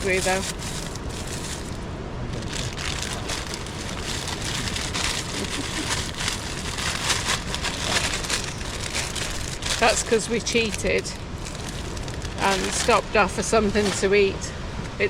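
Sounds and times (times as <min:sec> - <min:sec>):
rain hitting tent flysheet: 0:00.0 - 0:14.4
strong wind: 0:00.0 - 0:15.0.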